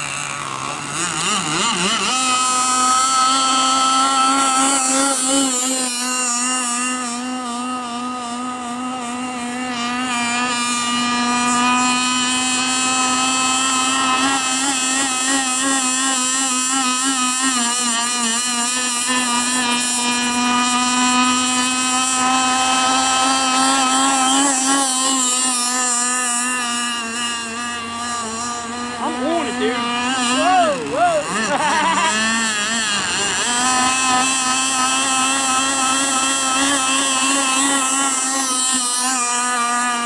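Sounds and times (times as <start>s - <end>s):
model boat engine at high speed: 0.0s - 40.0s.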